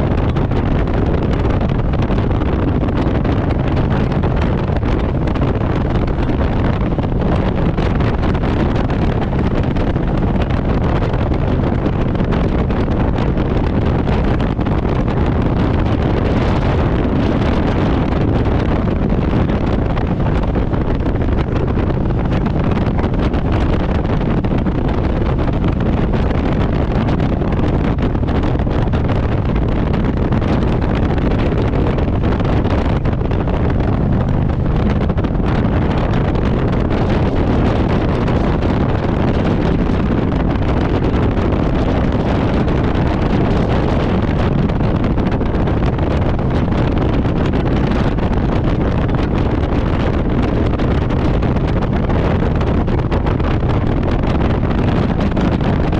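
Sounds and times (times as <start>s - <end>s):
motorcycle engine cruising: 0.0s - 51.8s
wind rushing over microphone: 0.0s - 55.9s.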